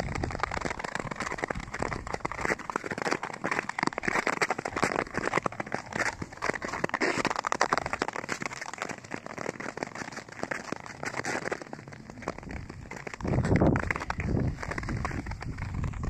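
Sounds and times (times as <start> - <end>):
skate blades scraping over ice: 0.0 - 16.0.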